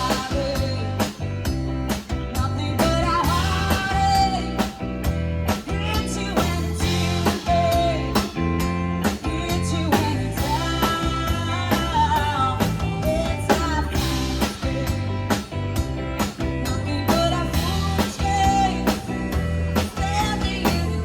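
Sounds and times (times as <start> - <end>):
person singing: 0.0 - 1.2, 2.3 - 4.8, 5.6 - 8.4, 9.0 - 15.3, 16.6 - 21.0
bass guitar: 0.0 - 21.0
drums steady beat: 0.0 - 21.0
guitar: 0.0 - 21.0.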